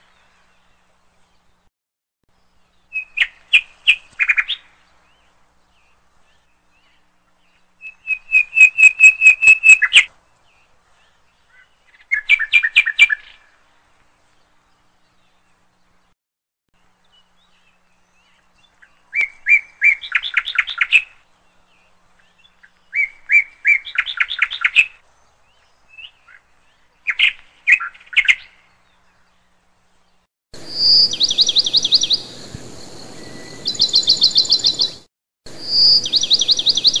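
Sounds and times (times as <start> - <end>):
lovebirds chirping and trilling: 2.4 - 16.1, 17.0 - 37.0.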